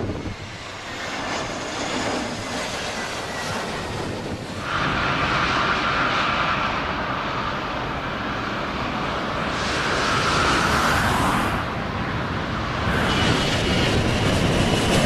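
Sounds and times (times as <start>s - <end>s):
airliner engines whining: 0.0s - 15.0s
wind rumble on microphone: 0.0s - 15.0s.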